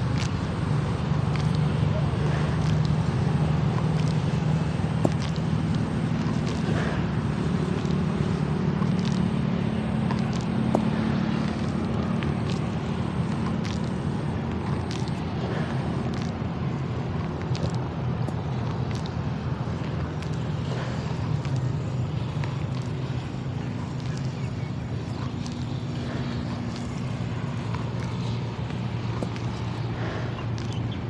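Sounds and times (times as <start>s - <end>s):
water buffalo chewing: 0.0s - 31.0s.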